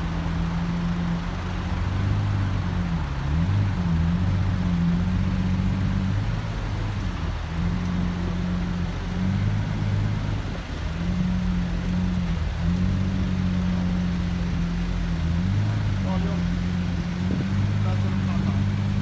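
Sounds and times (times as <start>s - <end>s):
car engine running at low revs: 0.0s - 19.0s.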